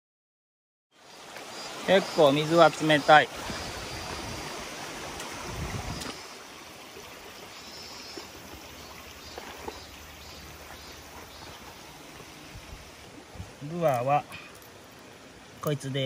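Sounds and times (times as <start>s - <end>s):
stream running over rocks: 1.0s - 16.0s.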